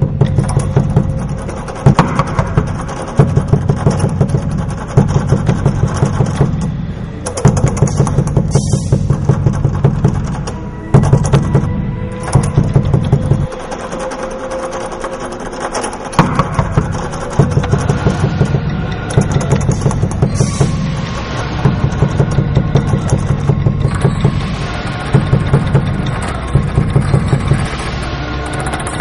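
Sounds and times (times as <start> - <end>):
film music with pulsing beat: 0.0 - 29.0.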